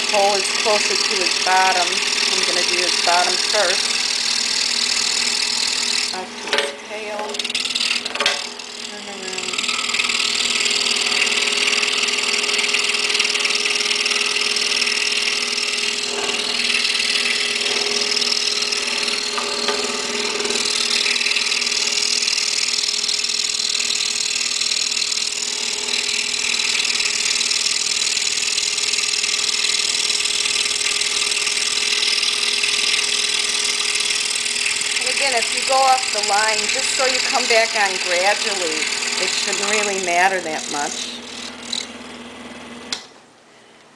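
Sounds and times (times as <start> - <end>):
scroll saw cutting wood: 0.0 - 43.0.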